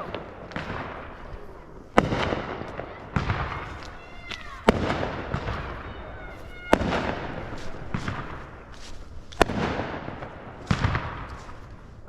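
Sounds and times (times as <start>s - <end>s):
fireworks bangs: 0.0s - 12.0s
rumbling echo and crackle: 0.0s - 12.0s.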